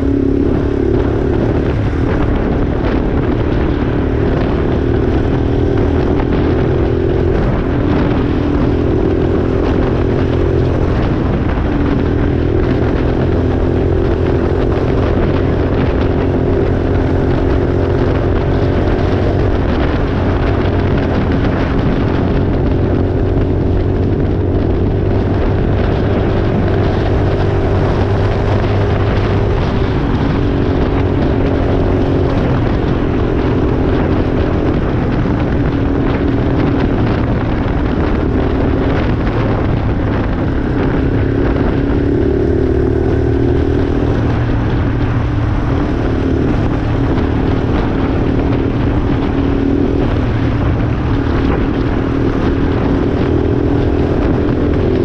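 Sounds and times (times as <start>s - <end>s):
quad bike engine running: 0.0s - 55.0s
wind and road noise: 0.0s - 55.0s.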